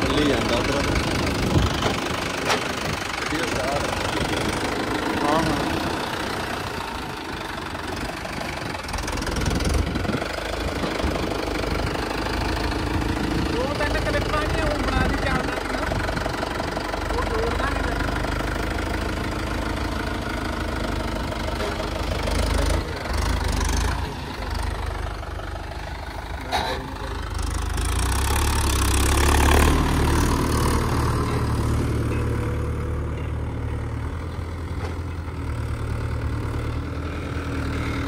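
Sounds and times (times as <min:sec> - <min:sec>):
diesel tractor engine running: 0:00.0 - 0:38.0.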